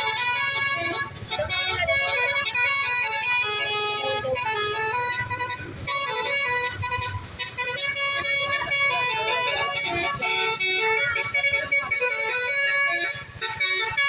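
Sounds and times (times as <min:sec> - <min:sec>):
bus engine running: 0:00.0 - 0:14.0
multi-tone bus horn melody: 0:00.0 - 0:14.0.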